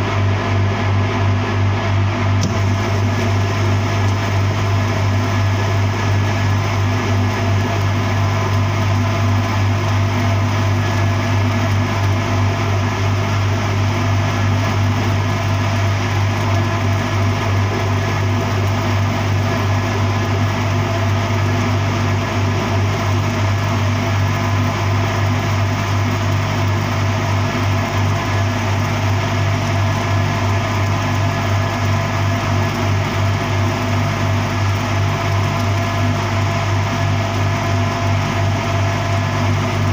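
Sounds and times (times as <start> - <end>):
arc welding buzz: 2.3 - 39.9.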